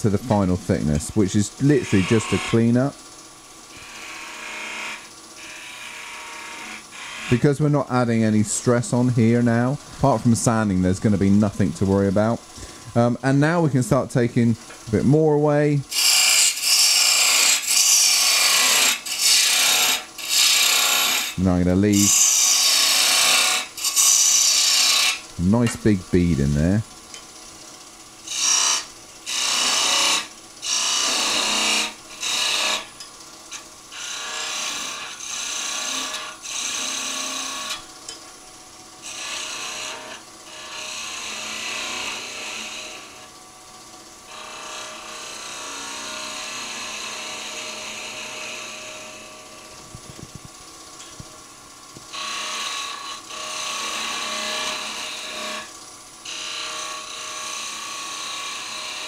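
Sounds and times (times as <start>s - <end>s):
turning tool cutting wood on lathe: 0.0s - 26.8s, 28.2s - 37.9s, 39.0s - 43.3s, 44.2s - 50.4s, 51.9s - 59.0s.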